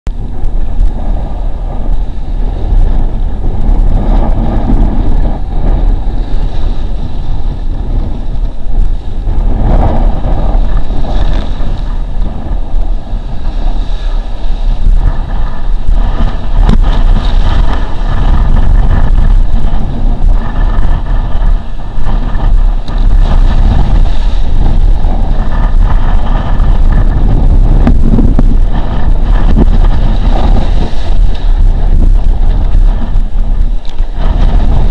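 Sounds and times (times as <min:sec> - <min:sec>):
wind buffeting microphone: 0:00.1 - 0:34.9
water rushing and splashing: 0:00.2 - 0:34.9.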